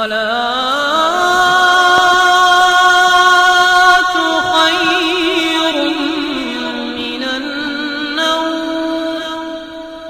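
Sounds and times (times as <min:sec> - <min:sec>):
person singing chant-like melody: 0:00.0 - 0:10.0.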